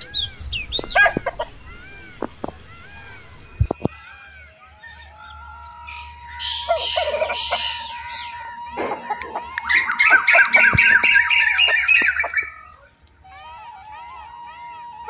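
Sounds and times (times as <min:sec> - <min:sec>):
birds squawking and chattering: 0:00.0 - 0:15.0.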